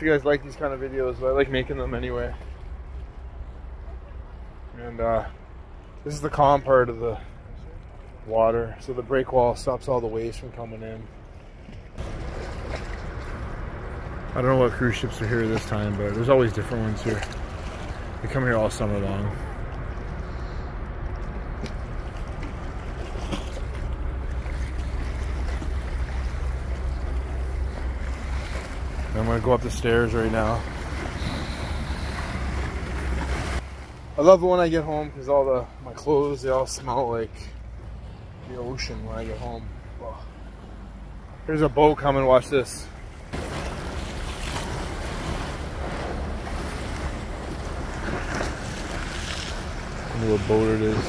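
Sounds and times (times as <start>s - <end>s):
harbour water: 0.0s - 51.0s
wind: 0.0s - 51.0s.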